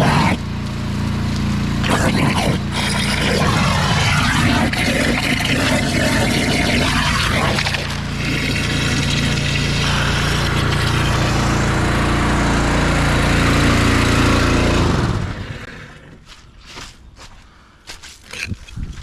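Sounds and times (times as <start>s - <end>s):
small engine running: 0.0s - 16.8s.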